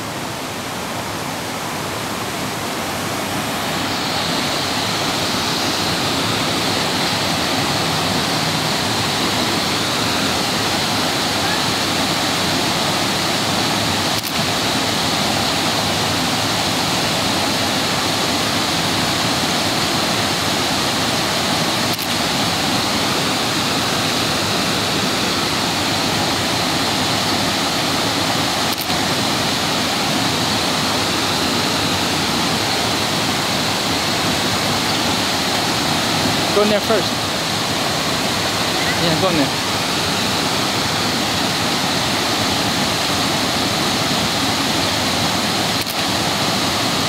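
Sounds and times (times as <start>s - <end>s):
water rushing over waterfall: 0.0s - 47.0s.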